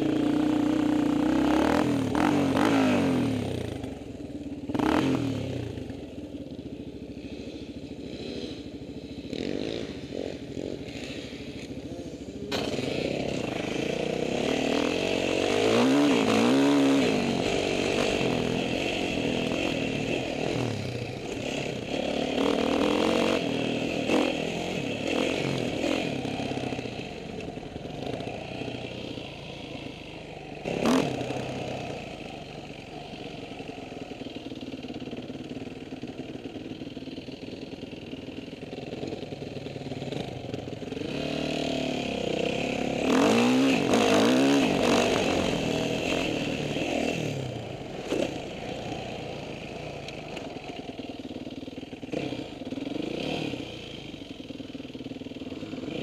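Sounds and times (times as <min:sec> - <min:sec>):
quad engine revving: 0:00.0 - 0:06.2, 0:07.2 - 0:56.0.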